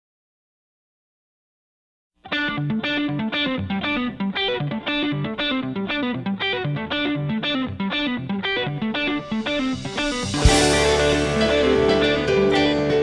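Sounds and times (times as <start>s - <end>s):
plucked distorted guitar music: 2.3s - 13.0s.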